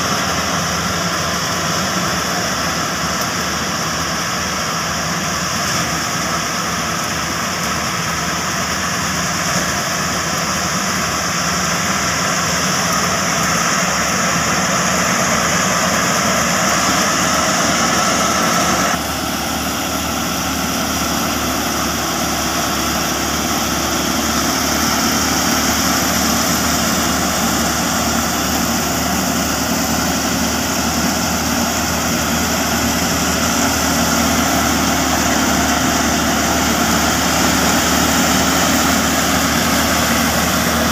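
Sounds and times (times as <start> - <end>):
tractor engine working: 0.0 - 40.9
thresher whirring: 8.0 - 40.9.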